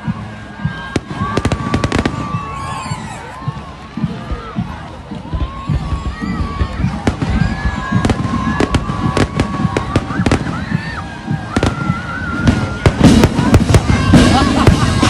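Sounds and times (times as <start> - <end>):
crowd noise: 0.0 - 15.0
fireworks bangs and cracks: 0.0 - 15.0.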